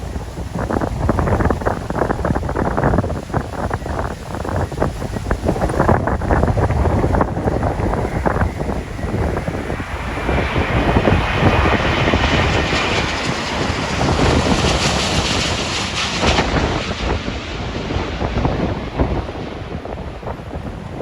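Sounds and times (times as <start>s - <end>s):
jet airliner engine noise: 0.0s - 21.0s
wind buffeting microphone: 0.0s - 21.0s.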